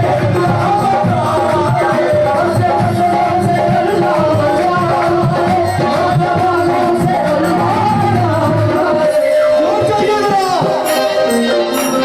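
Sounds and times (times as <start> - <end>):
hand drums beat: 0.0 - 12.0
qawwali music over sound system: 0.0 - 12.0.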